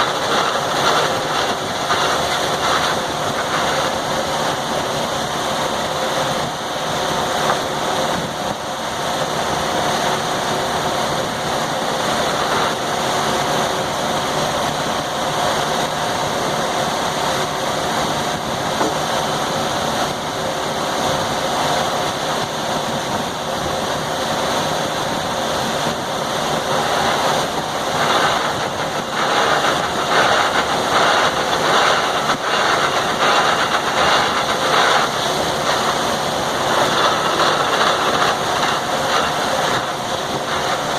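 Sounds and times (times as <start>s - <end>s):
sawmill humming: 0.0s - 40.9s.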